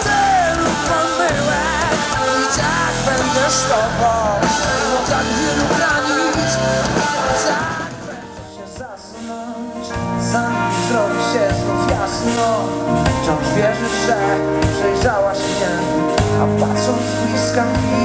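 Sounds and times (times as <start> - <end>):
bass: 0.0 - 18.0
drums: 0.0 - 18.0
live band playing: 0.0 - 18.0
person singing: 0.0 - 18.0.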